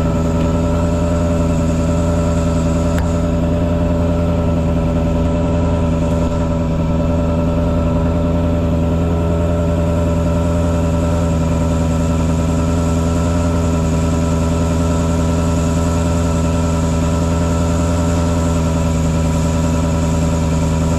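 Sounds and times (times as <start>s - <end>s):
truck engine droning: 0.0s - 20.9s.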